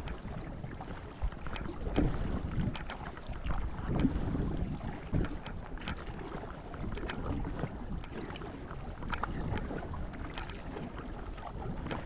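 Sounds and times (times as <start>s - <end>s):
paddle clicks and splashes: 0.0s - 12.0s
rushing water: 0.0s - 12.0s
wind on microphone: 0.0s - 12.0s.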